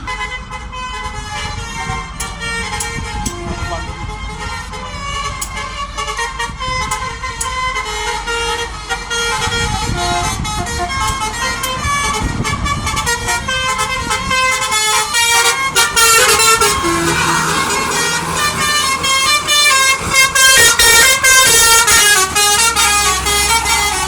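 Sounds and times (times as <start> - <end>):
bus engine running: 0.0 - 24.0
musical air horn melody: 0.0 - 24.0.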